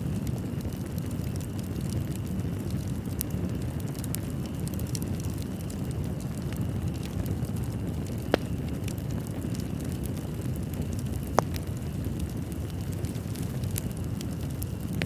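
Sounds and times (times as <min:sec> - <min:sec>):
fire pops: 0:00.0 - 0:15.0
wood fire crackling: 0:00.0 - 0:15.0.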